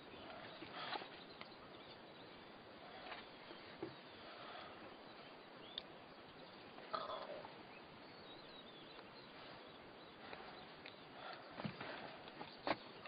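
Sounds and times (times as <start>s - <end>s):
faint bird calls: 0.0s - 13.0s
steady low hiss: 0.0s - 13.0s.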